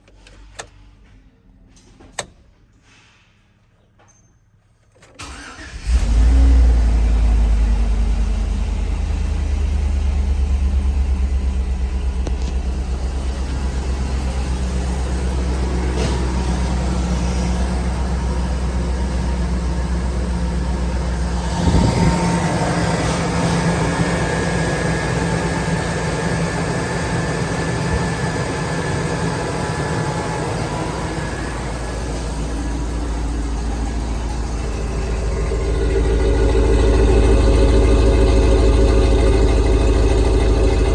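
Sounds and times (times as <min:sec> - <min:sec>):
engine starting and idling: 0:04.9 - 0:40.9.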